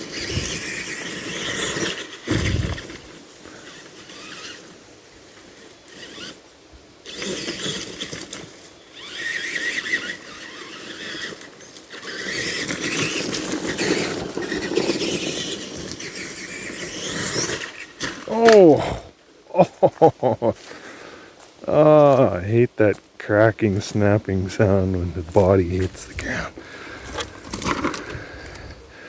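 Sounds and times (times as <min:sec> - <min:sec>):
toy truck drivetrain whining: 0:00.0 - 0:18.8, 0:21.6 - 0:29.0
tyres on dirt: 0:00.0 - 0:29.0.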